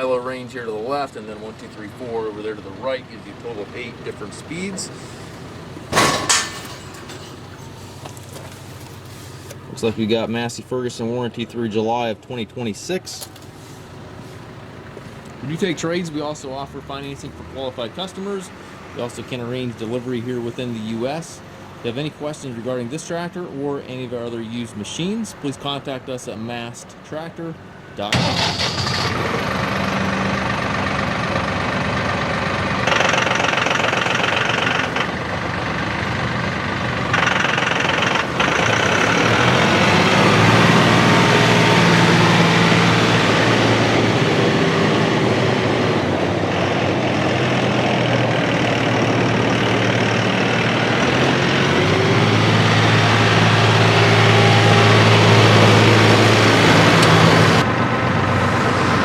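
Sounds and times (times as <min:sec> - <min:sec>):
tractor diesel engine running: 0:00.7 - 0:10.9, 0:12.9 - 0:19.0, 0:28.1 - 0:59.0.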